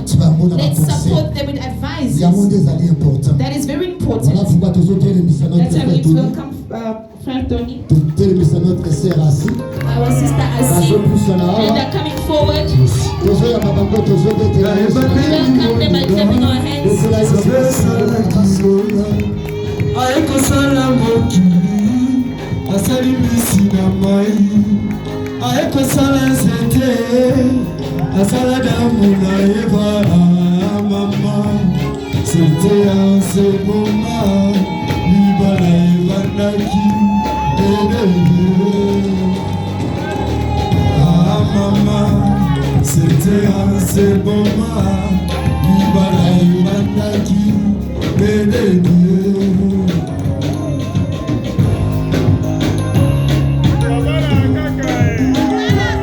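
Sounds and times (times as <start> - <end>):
singing over instrumental music: 7.8 - 56.0.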